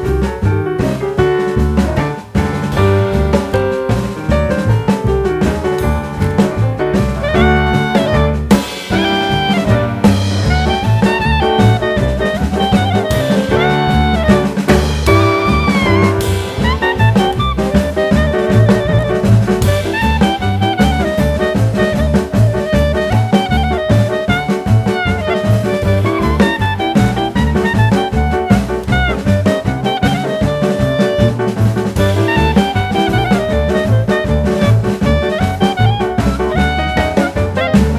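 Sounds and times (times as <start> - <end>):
horn-led music with drums: 0.0 - 37.9.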